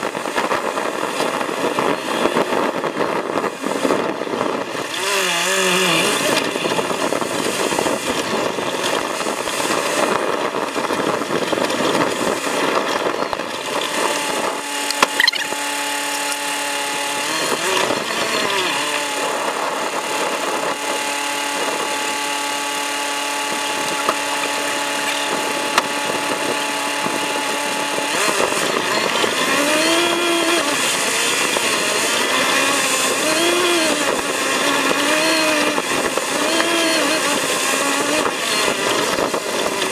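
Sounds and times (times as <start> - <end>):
sped-up vehicle engine buzz: 0.0 - 39.9.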